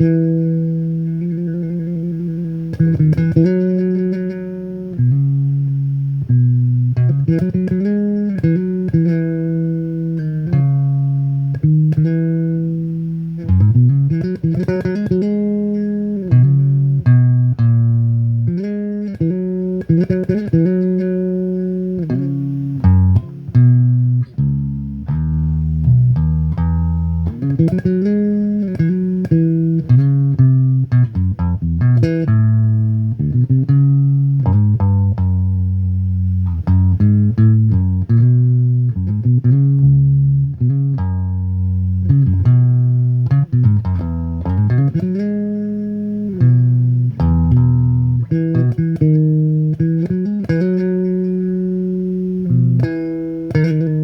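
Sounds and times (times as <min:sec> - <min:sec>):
bass guitar melody with slides: 0:00.0 - 0:54.0.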